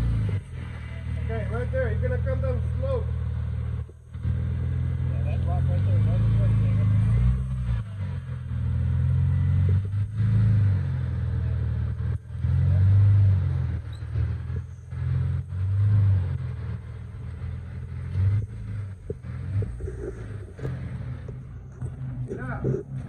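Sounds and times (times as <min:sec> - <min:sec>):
engine rumbling with throttle surges: 0:00.0 - 0:23.0.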